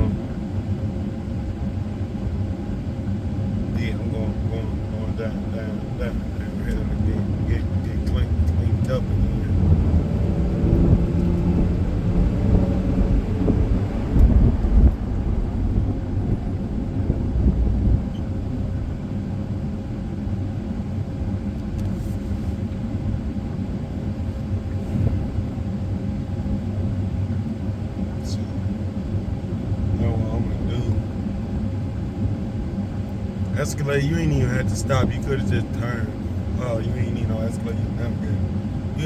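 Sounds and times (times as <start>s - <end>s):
car engine and road rumble: 0.0s - 39.0s.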